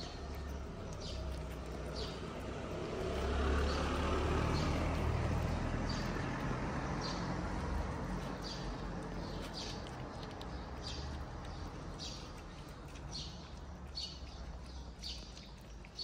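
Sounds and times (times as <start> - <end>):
vehicle passing: 0.0 - 16.0.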